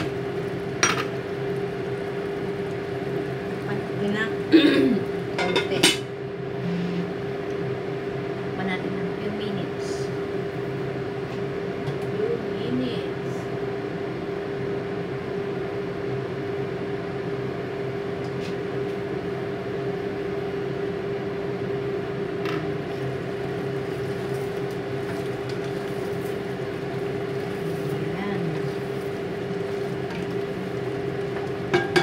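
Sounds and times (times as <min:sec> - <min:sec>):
kitchen equipment humming: 0:00.0 - 0:32.0.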